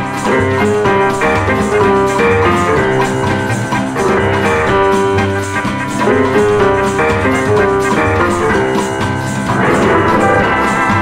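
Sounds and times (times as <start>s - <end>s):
held melody notes: 0.0s - 11.0s
steady drum beat: 0.0s - 11.0s.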